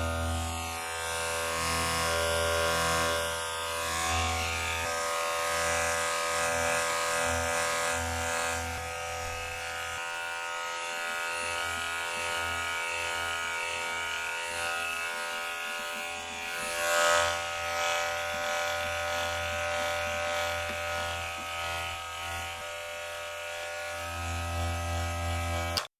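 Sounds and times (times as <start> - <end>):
electric hair clipper buzzing: 0.0 - 25.9.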